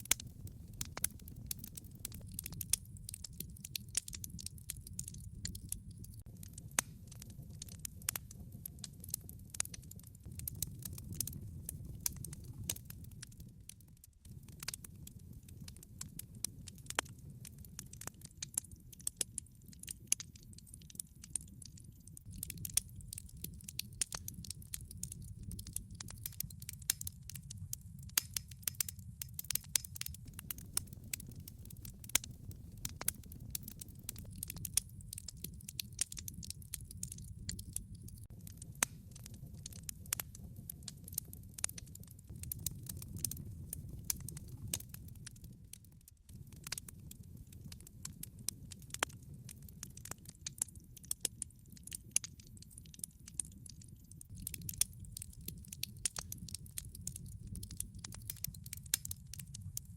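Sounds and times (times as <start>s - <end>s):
fire pops and crackles: 0.0s - 59.9s
low rumble of flames: 0.0s - 59.9s.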